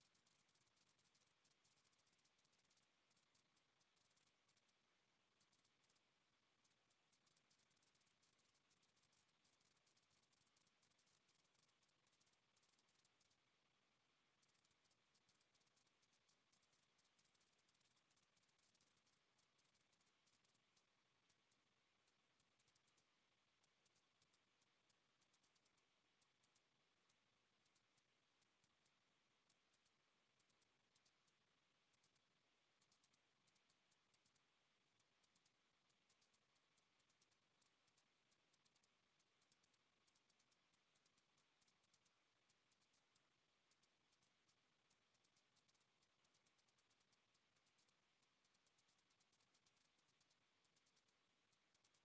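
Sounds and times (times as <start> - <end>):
faint hiss: 0.0 - 52.0.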